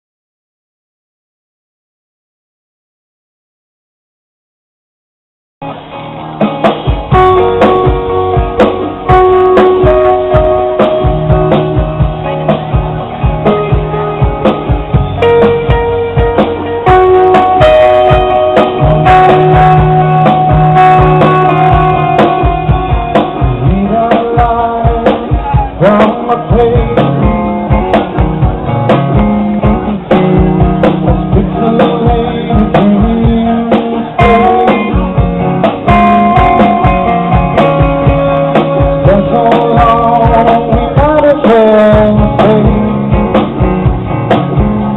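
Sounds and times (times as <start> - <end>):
bass guitar: 5.6 - 44.9
guitar melody: 5.6 - 44.9
drum hits: 6.5 - 44.9.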